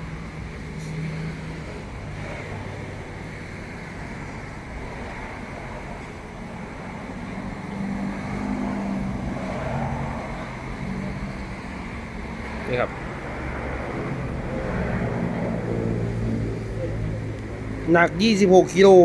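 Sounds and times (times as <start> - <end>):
road traffic: 0.0 - 19.0
vehicle engine: 0.0 - 19.0.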